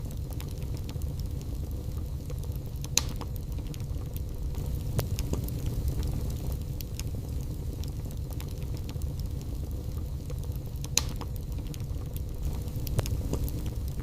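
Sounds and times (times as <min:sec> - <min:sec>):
fire crackling and popping: 0:00.0 - 0:14.0
fire flames rumbling: 0:00.0 - 0:14.0.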